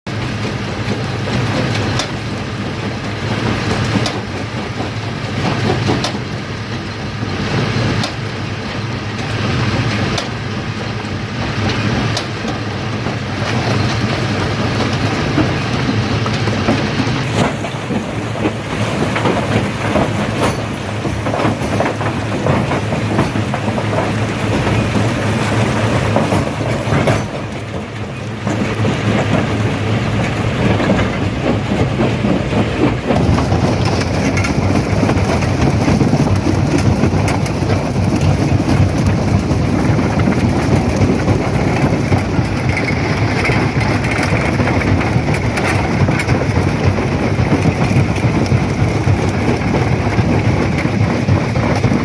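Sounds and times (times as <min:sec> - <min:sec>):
stone crusher rumbling: 0:09.1 - 0:52.0.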